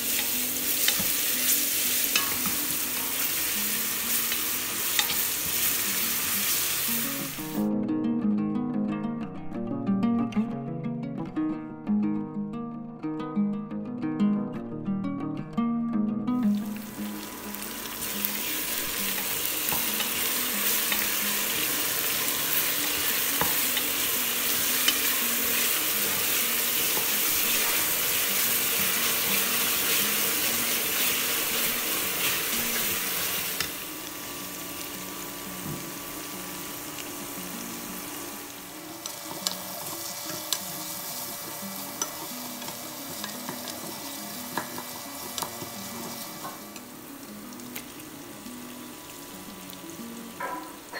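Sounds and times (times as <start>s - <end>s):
onions sizzling in a pot: 0.0s - 7.7s, 16.4s - 50.9s.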